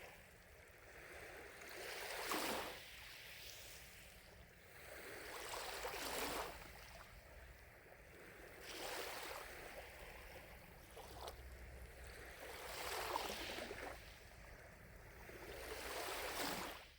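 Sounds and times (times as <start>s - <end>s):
lake waves lapping at shore: 0.0s - 16.9s.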